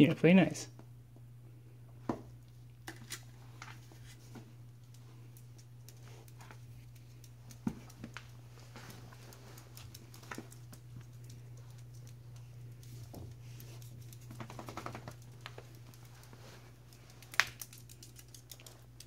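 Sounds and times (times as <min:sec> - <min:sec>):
faint low hum: 0:00.0 - 0:19.0
animals clicking and tapping on floor: 0:03.6 - 0:19.0.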